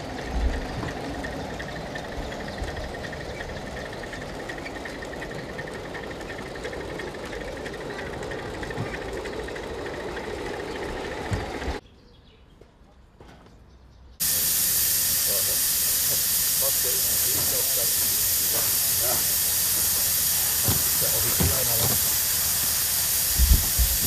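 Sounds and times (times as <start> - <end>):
model train rattling on track: 0.0 - 11.8, 14.2 - 24.0.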